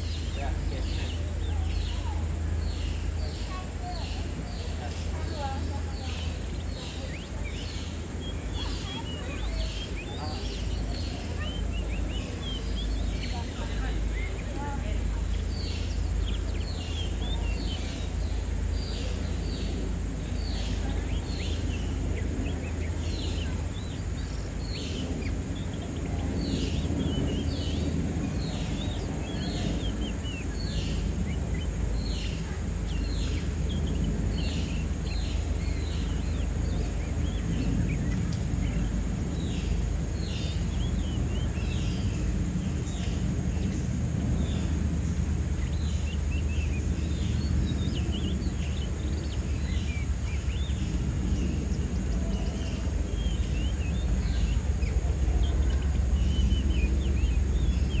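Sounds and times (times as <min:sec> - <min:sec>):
low background rumble: 0:00.0 - 0:58.0
small birds chirping: 0:00.0 - 0:58.0.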